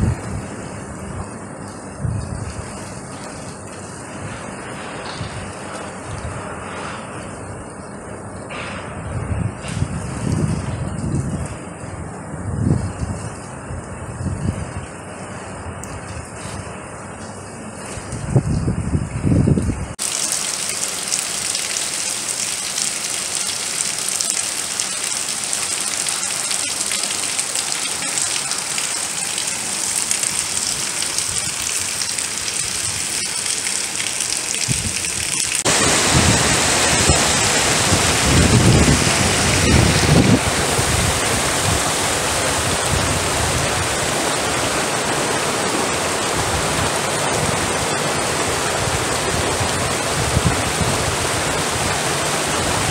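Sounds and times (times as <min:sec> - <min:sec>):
heavy rain hissing: 0:00.0 - 0:52.9
running floodwater: 0:00.0 - 0:52.9.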